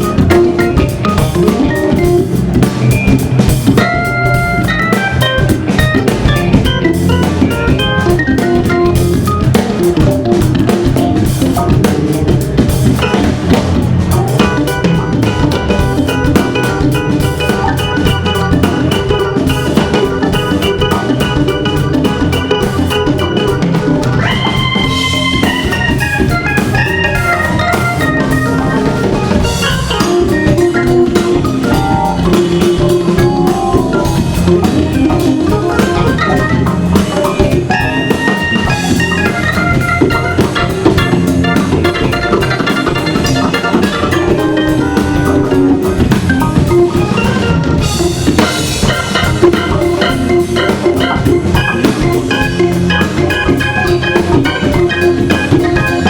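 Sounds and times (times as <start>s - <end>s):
drum kit beat: 0.0s - 56.0s
organ playing soul-jazz: 0.0s - 56.0s.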